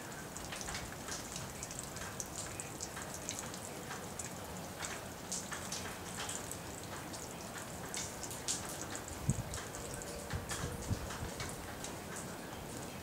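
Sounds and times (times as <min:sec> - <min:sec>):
rain falling: 0:00.0 - 0:13.0
raindrops ticking: 0:00.0 - 0:13.0.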